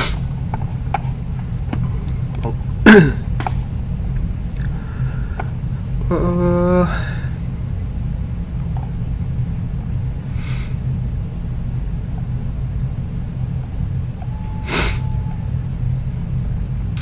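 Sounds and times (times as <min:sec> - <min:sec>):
faint hiss: 0:00.0 - 0:17.0
low background rumble: 0:00.0 - 0:17.0.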